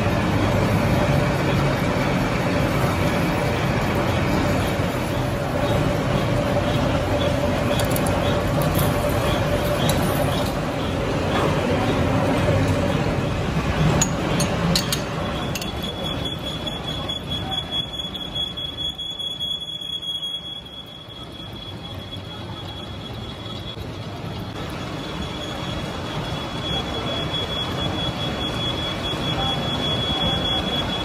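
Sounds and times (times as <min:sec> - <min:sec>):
machine shop din: 0:00.0 - 0:31.0.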